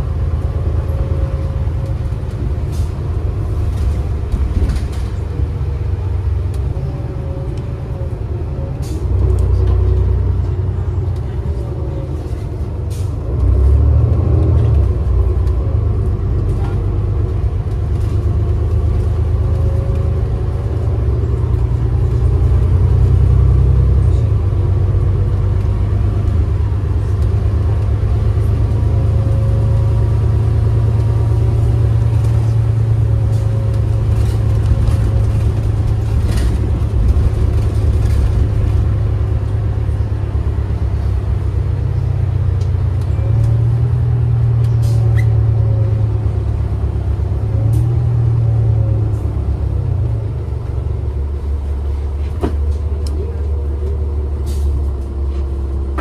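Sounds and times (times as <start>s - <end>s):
bus body rattles and clicks: 0.0s - 56.0s
bus engine and road rumble: 0.0s - 56.0s.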